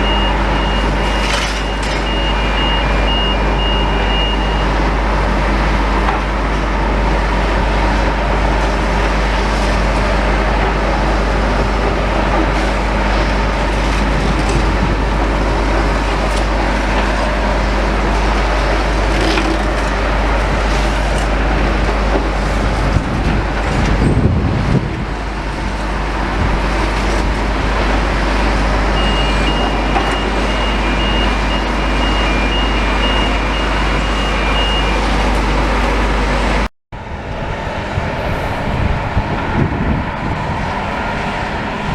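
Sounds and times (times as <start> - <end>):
excavators working rubble: 0.0 - 36.7.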